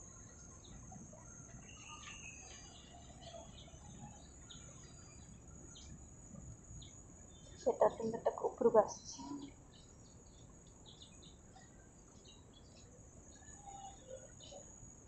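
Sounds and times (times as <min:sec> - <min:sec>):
bird chirps: 0:00.0 - 0:06.1, 0:06.8 - 0:14.9
insect drone: 0:00.0 - 0:15.0.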